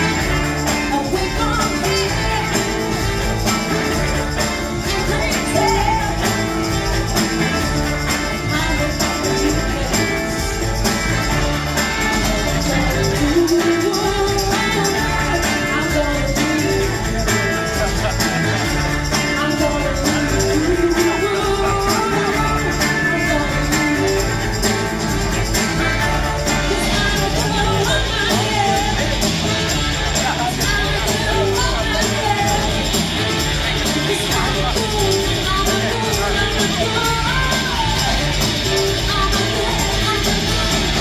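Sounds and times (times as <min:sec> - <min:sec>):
woman singing: 0:00.0 - 0:17.8, 0:18.9 - 0:41.0
drum kit beat: 0:00.0 - 0:41.0
electric guitars: 0:00.0 - 0:41.0.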